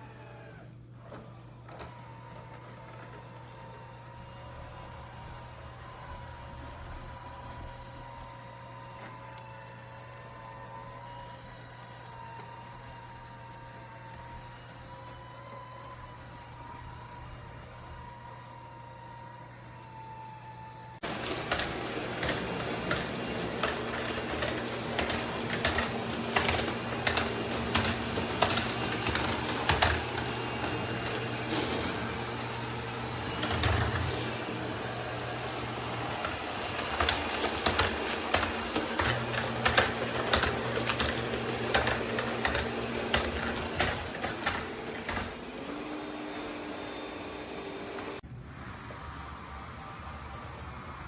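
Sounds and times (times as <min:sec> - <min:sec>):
robot vacuum motor hum: 0:00.0 - 0:48.2.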